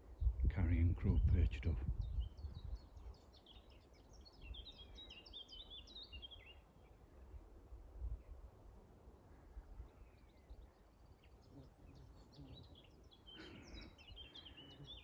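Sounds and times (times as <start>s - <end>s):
songbird chirping and warbling: 0.2s - 7.2s, 9.3s - 15.0s.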